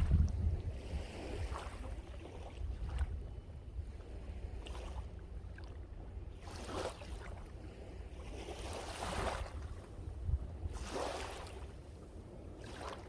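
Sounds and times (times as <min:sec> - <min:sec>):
ocean waves washing in: 0:00.0 - 0:13.0
wind rumble on microphone: 0:00.0 - 0:13.0.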